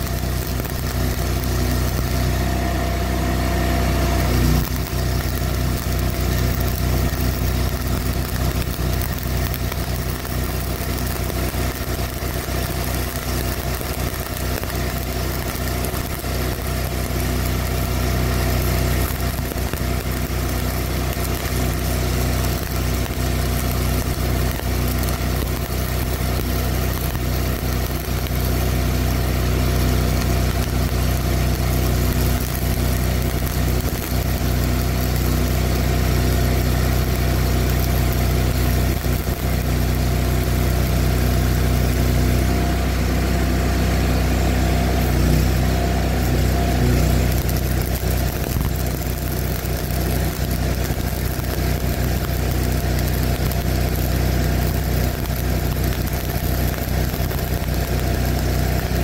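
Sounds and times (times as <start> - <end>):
welder generator engine running: 0.0 - 59.0
welding arc crackling and hissing: 0.0 - 59.0.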